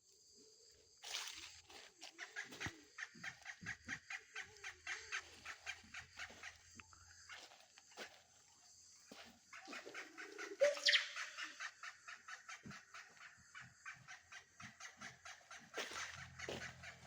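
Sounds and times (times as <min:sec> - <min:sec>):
birds chirping: 0:02.0 - 0:17.0.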